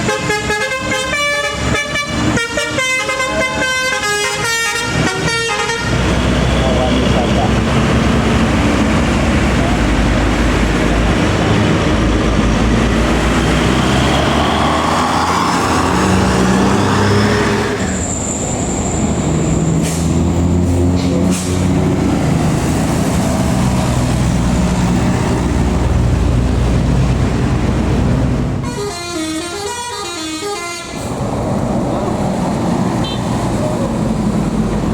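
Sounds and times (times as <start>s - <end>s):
diesel bus engine running: 0.0s - 34.9s.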